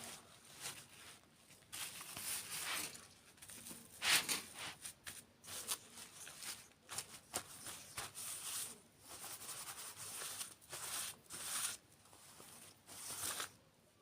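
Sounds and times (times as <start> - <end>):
crackly rustling: 0.0 - 13.6.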